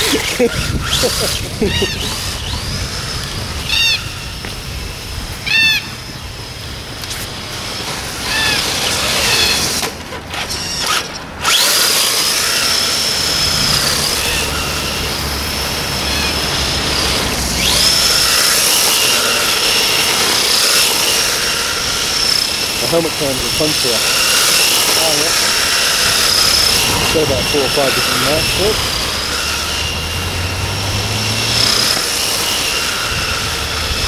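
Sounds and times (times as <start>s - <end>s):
rc car motor whining: 0.0s - 34.0s.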